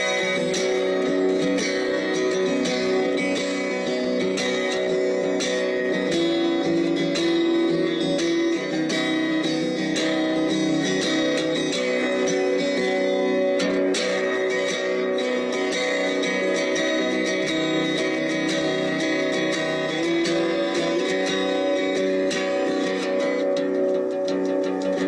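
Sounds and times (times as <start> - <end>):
guitar strumming and plucking: 0.0 - 25.0.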